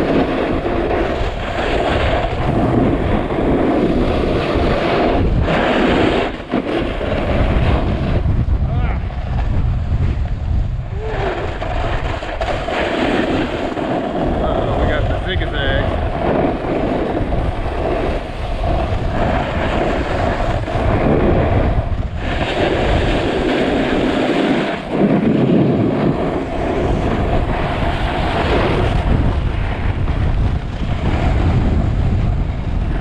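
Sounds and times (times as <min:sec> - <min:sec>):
snowboard sliding over snow: 0:00.0 - 0:33.0
wind buffeting microphone: 0:00.0 - 0:33.0.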